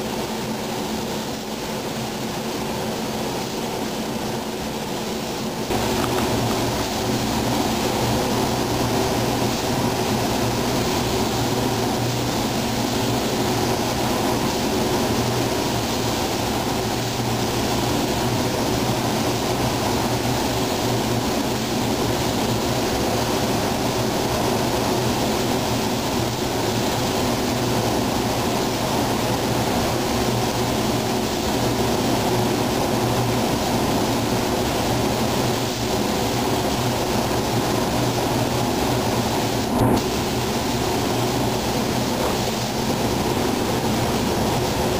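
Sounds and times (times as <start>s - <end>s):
low steady hum: 0.0s - 44.9s
spray gun hissing: 0.0s - 44.9s.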